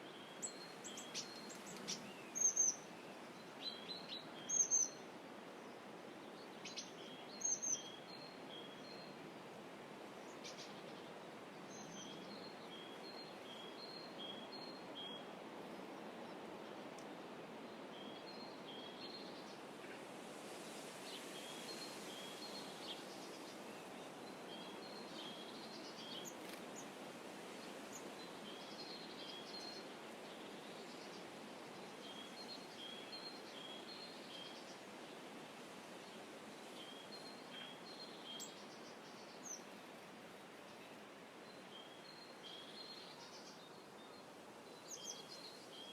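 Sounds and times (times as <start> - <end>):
soft background hiss: 0.0 - 45.9.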